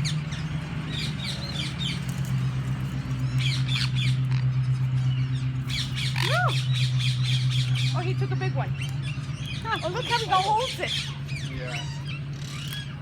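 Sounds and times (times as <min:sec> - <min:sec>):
birds squawking and chirping: 0:00.0 - 0:13.0
steady low hum: 0:00.0 - 0:13.0.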